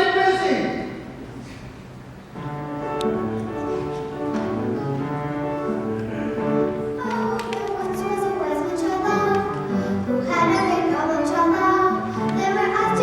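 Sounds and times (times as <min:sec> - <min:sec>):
bowed string instrumental music: 0:02.3 - 0:13.0.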